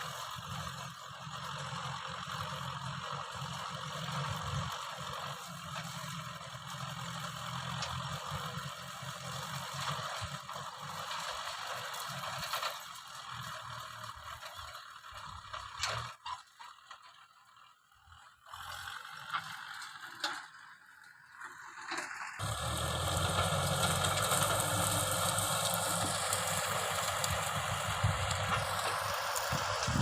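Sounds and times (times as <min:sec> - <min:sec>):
diesel tractor engine running: 0:00.0 - 0:30.0.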